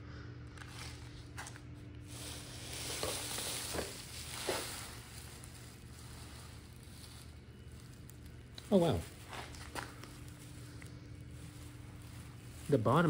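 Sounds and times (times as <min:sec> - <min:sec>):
dry leaves rustling in a sack: 0:00.6 - 0:13.0.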